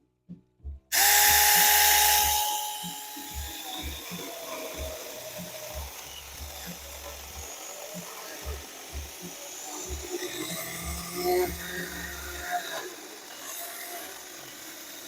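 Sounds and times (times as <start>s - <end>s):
mini electric chainsaw whining: 0.9s - 15.0s.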